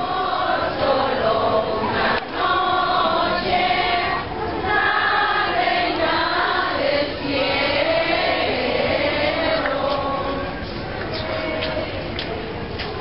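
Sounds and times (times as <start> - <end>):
crowd singing in unison: 0.0 - 13.0.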